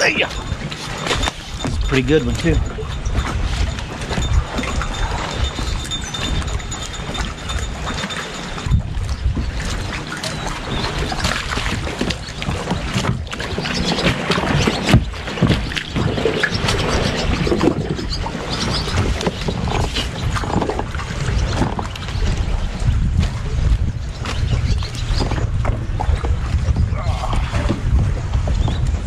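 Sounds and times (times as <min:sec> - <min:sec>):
water splashing: 0:00.0 - 0:28.6
wind rumble on microphone: 0:00.0 - 0:29.0.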